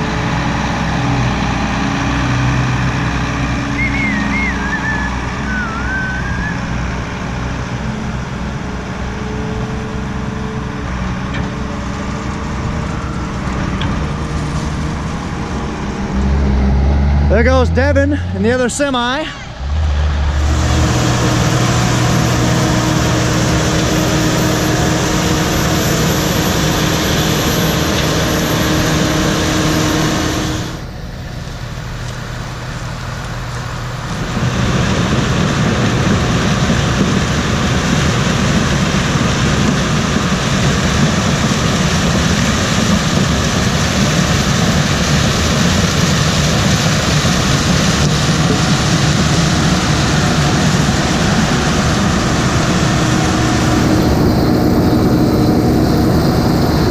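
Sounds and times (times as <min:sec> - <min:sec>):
diesel engines droning: 0:00.0 - 0:56.9
rough engine rumble: 0:00.0 - 0:56.9.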